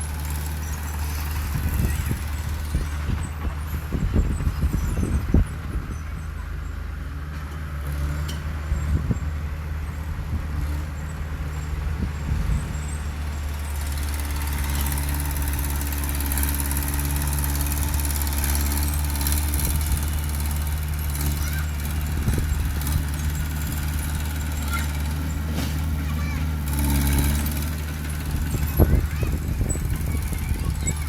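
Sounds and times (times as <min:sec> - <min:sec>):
diesel machine engine running: 0:00.0 - 0:31.0.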